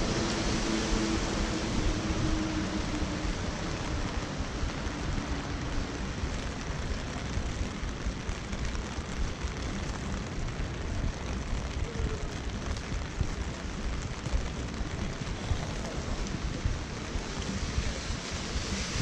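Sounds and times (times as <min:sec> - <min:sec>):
constant low rumble: 0:00.0 - 0:19.0
rain pattering on an umbrella: 0:00.0 - 0:19.0.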